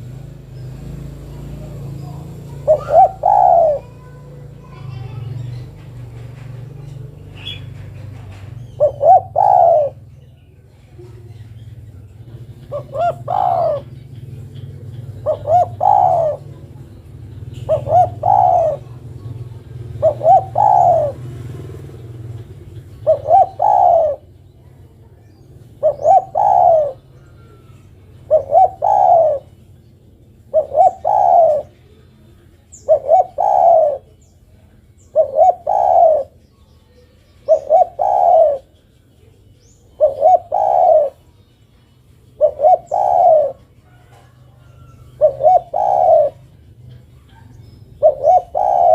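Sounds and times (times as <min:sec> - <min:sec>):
dove cooing: 0:00.0 - 0:36.4, 0:37.0 - 0:48.9.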